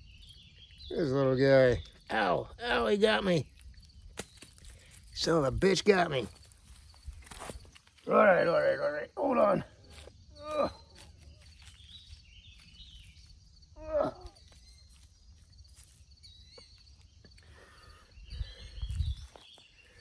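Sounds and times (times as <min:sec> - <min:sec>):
faint high chirping: 0:00.0 - 0:20.0.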